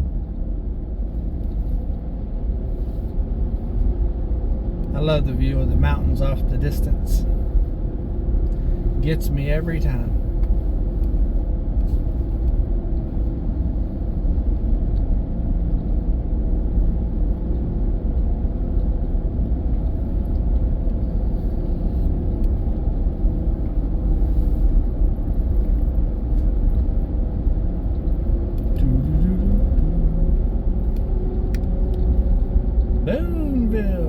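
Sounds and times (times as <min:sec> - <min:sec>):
engine and tyres rumbling inside car: 0:00.0 - 0:34.0.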